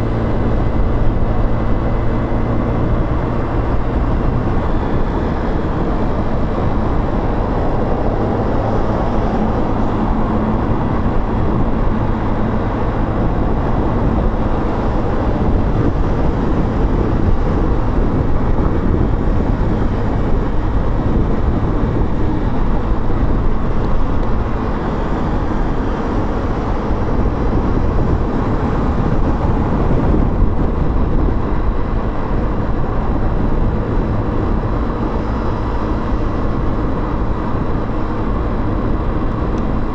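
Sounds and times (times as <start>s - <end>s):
motorcycle engine rumble: 0.0s - 39.9s
wind noise: 0.0s - 39.9s.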